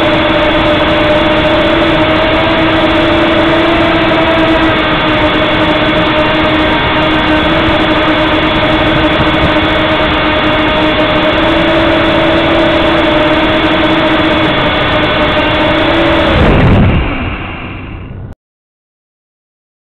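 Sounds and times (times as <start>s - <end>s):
quadcopter motors whining: 0.0s - 18.3s.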